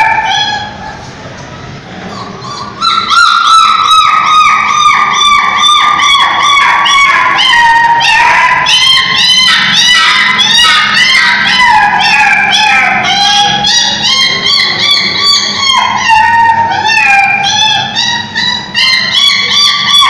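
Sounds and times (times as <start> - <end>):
puppy whining and yelping: 0.0 - 1.1, 2.0 - 20.0.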